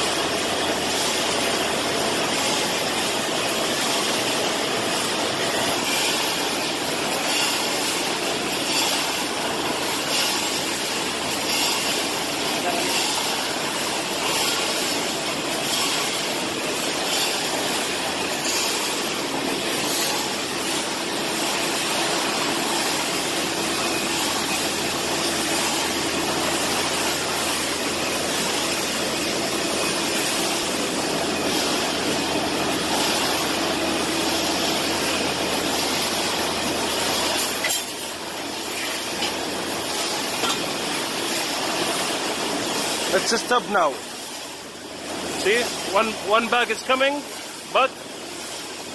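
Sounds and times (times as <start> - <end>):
steady mechanical machine noise: 0.0 - 48.9.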